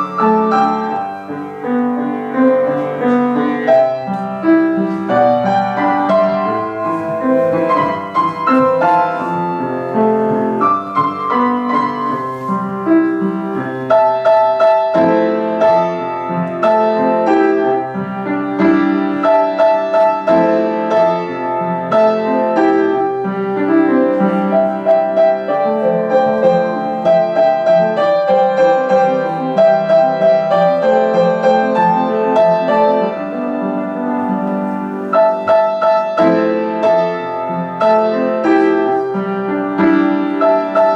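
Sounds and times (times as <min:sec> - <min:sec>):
flowing piano piece: 0:00.0 - 0:40.9.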